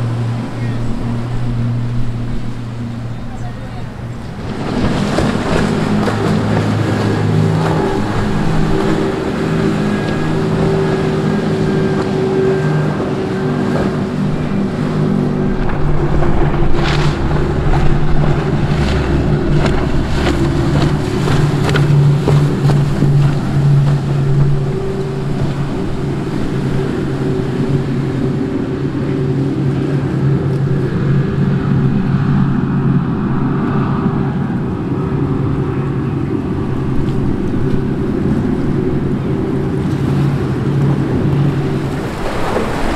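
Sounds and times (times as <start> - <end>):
outboard motors droning: 0.0 - 42.9
wind on microphone: 0.0 - 42.9.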